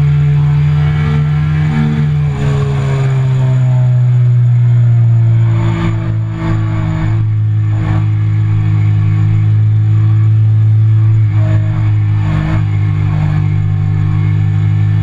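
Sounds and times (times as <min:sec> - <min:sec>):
motorcycle engine at speed: 0:00.0 - 0:15.0.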